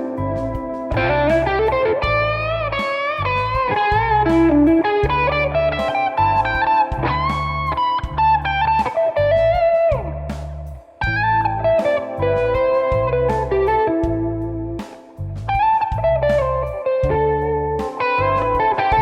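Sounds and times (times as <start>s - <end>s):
electric guitar lead with bends: 0.0s - 19.0s
sharp drum-like hits: 0.0s - 19.0s
pulsing low bass note: 0.2s - 19.0s.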